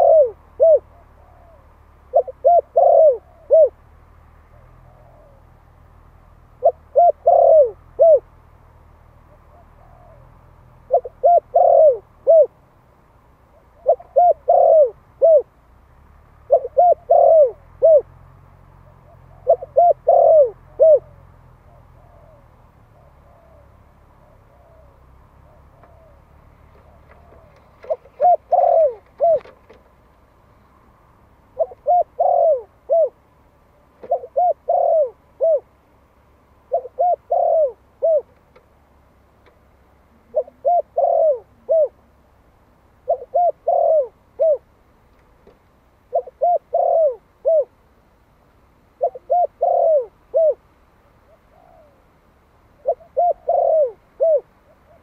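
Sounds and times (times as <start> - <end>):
dove cooing: 0.0 - 12.6, 13.4 - 15.6, 16.4 - 30.0, 30.6 - 35.9, 36.5 - 38.6, 39.4 - 47.8, 48.9 - 55.0.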